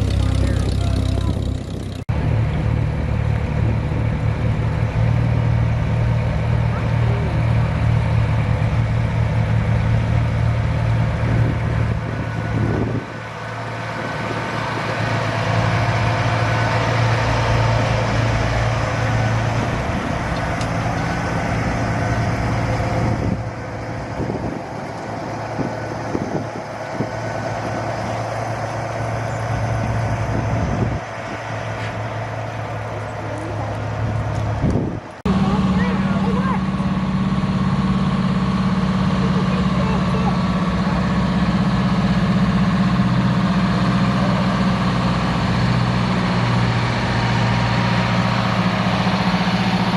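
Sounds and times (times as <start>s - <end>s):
heavy truck engines running: 0.0s - 49.9s.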